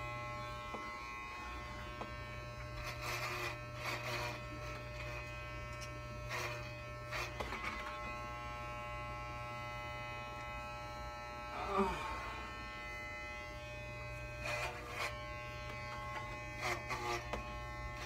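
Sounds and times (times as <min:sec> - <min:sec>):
electric hair clippers buzzing: 0:00.0 - 0:18.0
clipper blades rasping through hair: 0:00.4 - 0:11.5, 0:12.8 - 0:18.0.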